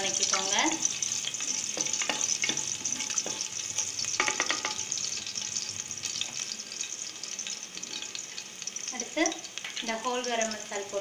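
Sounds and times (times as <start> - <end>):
garlic sizzling in oil: 0.0 - 11.0.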